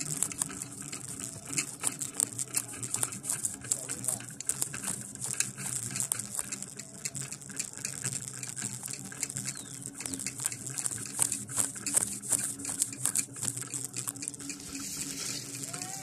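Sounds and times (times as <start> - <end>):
sharp crackles and rustling: 0.0 - 16.0
winch engine humming: 0.0 - 16.0.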